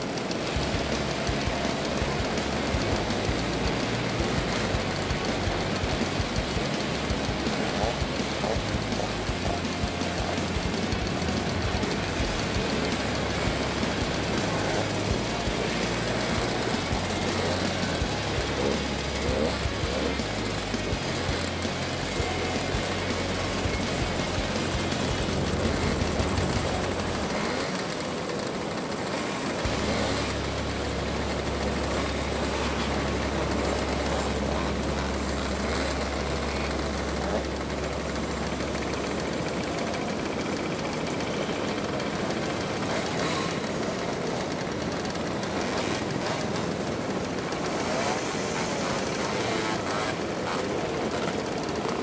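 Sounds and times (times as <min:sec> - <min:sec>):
two-stroke mopeds buzzing: 0:00.0 - 0:52.0.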